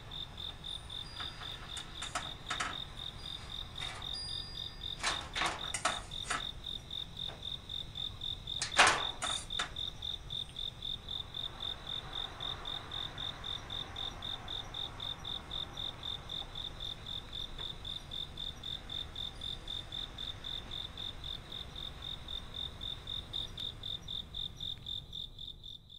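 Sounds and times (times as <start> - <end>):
cricket chirping: 0.0 - 25.9.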